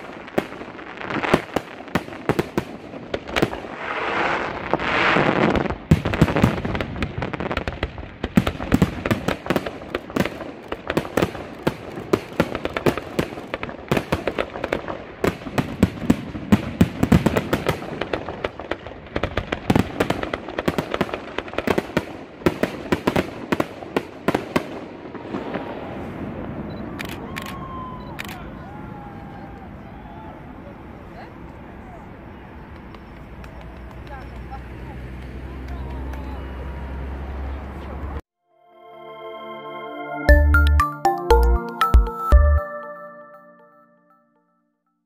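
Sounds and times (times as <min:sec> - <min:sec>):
fireworks bursting and crackling: 0:00.0 - 0:36.7.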